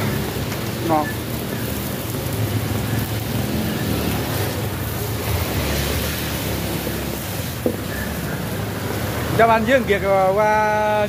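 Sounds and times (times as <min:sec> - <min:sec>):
batter sizzling in a hot wok: 0:00.0 - 0:10.0
heavy rain hissing: 0:00.0 - 0:11.0.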